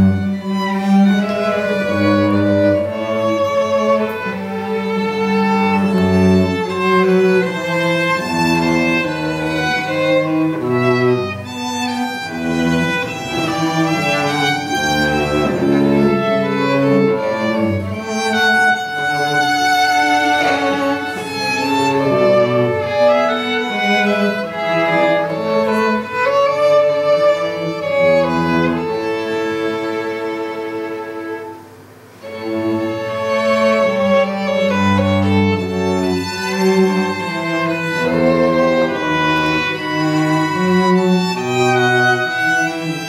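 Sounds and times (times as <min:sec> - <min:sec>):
cello bowed notes: 0:00.0 - 0:43.0
violin bowed notes: 0:00.0 - 0:43.0.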